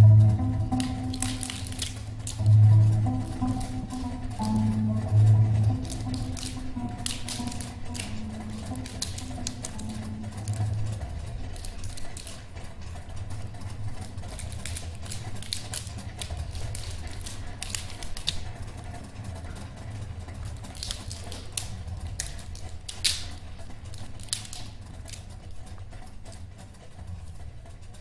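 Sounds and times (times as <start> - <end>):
juggling rings clicking and slapping: 0.0 - 19.5, 20.2 - 27.0
steady low hum: 0.0 - 28.0.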